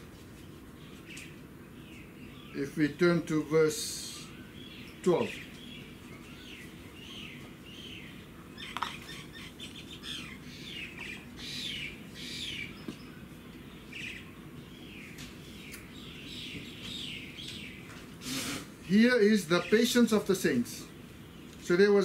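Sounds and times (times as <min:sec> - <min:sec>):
birds chirping: 0:00.0 - 0:22.0
low background hum: 0:00.0 - 0:22.0.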